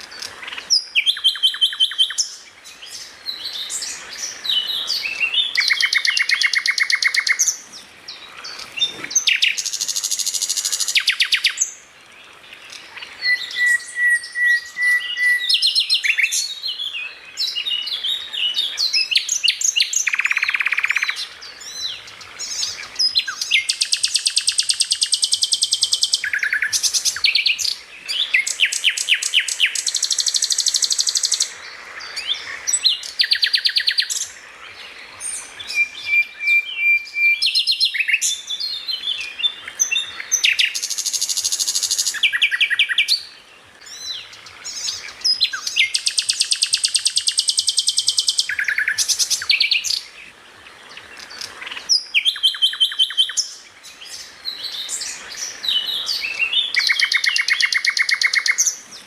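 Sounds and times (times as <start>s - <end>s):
songbird trilling: 0.0s - 11.8s, 12.6s - 50.2s, 50.9s - 59.0s.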